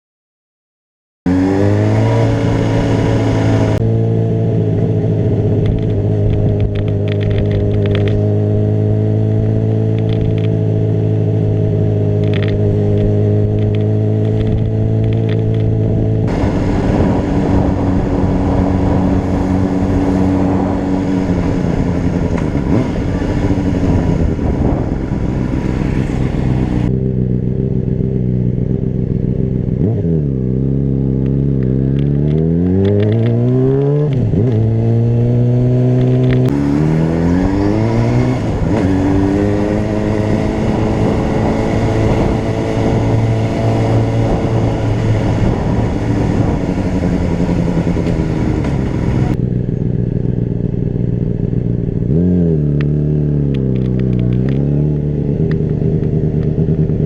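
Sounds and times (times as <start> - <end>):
motorcycle engine running: 1.3 - 57.0.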